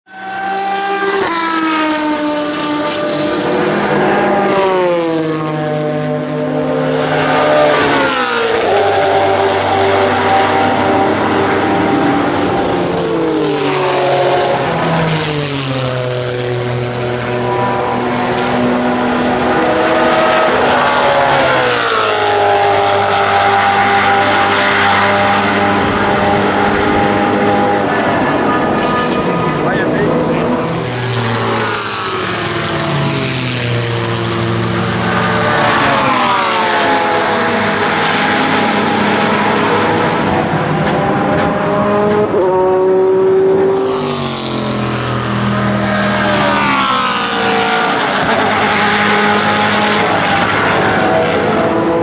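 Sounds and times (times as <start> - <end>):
race car engine revving: 0.1 - 52.0.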